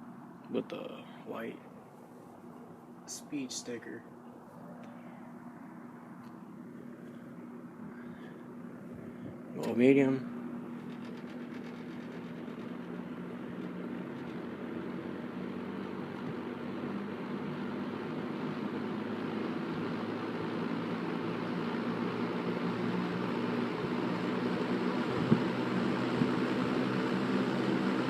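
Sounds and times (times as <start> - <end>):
box fan motor hum and whoosh: 0.0 - 28.0.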